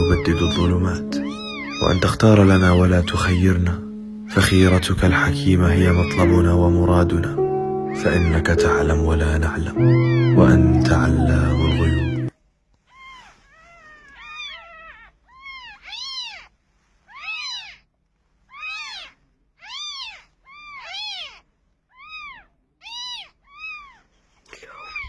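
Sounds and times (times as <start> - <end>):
cat meowing: 0.0 - 4.8, 5.6 - 7.0, 7.8 - 12.3, 12.9 - 16.5, 17.1 - 17.8, 18.5 - 24.1.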